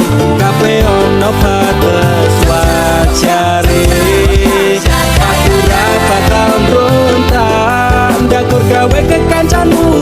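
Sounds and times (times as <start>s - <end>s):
dance remix music with bass beat: 0.5s - 10.0s.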